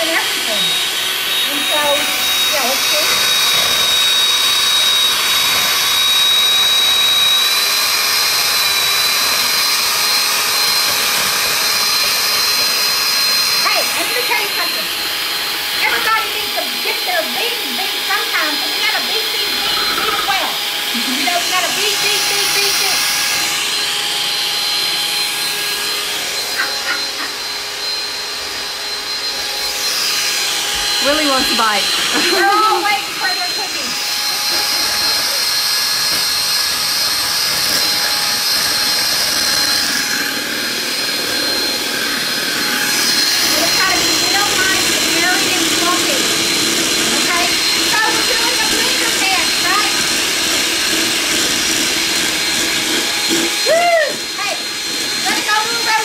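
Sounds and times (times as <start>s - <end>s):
electric hand mixer running: 0.0s - 56.0s.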